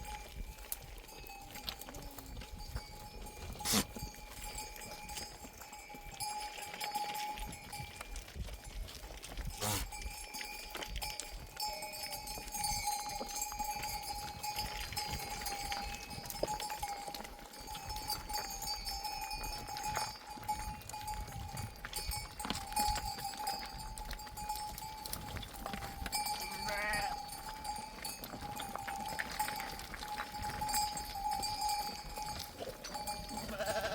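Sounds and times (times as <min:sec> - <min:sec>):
hooves on stony ground: 0:00.0 - 0:33.9
sheep bells clinking: 0:00.0 - 0:33.9.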